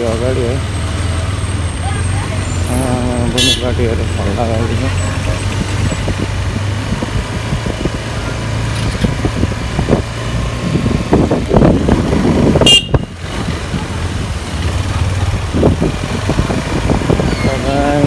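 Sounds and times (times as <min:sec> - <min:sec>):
motorcycle engine running: 0:00.0 - 0:18.0
street traffic: 0:00.0 - 0:18.0.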